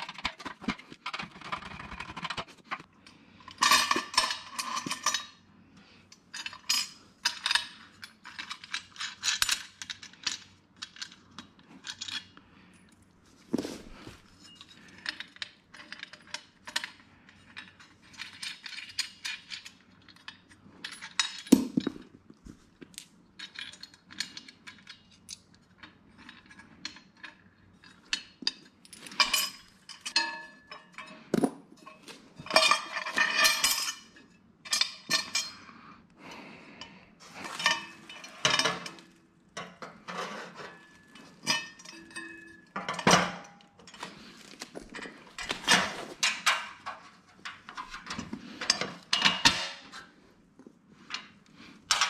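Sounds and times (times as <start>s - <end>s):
metal parts clinking and clattering: 0.0s - 5.5s, 6.1s - 35.7s, 36.8s - 50.1s, 51.0s - 52.0s.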